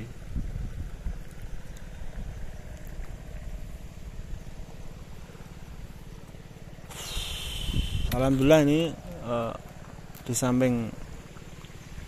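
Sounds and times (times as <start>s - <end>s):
small engine running: 1.4s - 12.0s.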